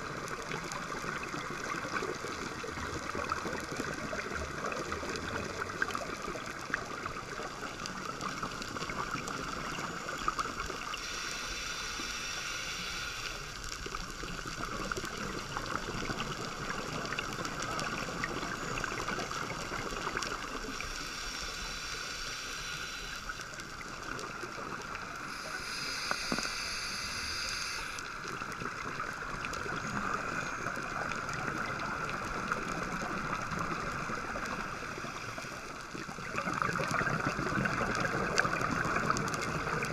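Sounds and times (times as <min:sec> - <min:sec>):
scuba regulator bubbles: 0:00.0 - 0:39.9
underwater fizzing crackle: 0:00.0 - 0:39.9.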